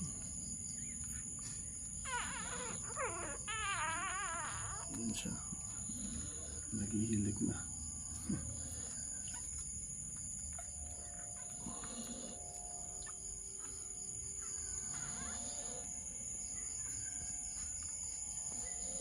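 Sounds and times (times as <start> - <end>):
puppies squeaking and grunting: 0.0 - 19.0
steady high-pitched whine: 3.7 - 19.0.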